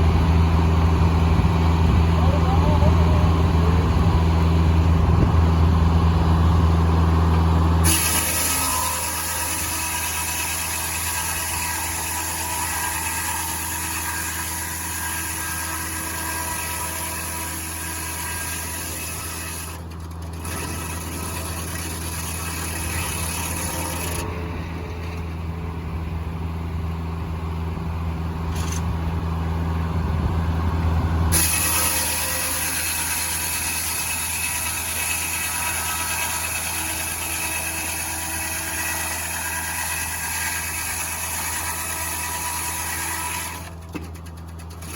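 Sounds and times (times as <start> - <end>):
sawmill machine hum: 0.0 - 44.9.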